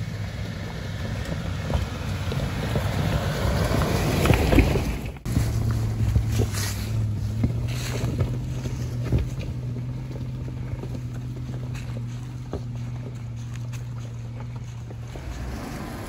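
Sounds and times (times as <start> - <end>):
vehicle engine low drone: 0.0 - 16.0.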